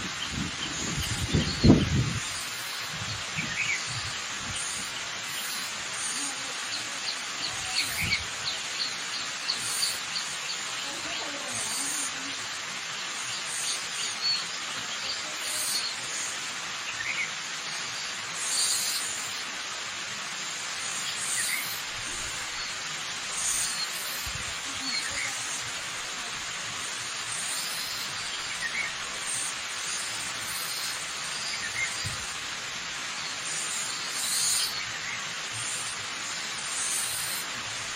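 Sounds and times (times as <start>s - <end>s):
birds chirping: 0.0s - 19.6s, 20.7s - 37.9s
waterfall rushing: 0.0s - 37.9s.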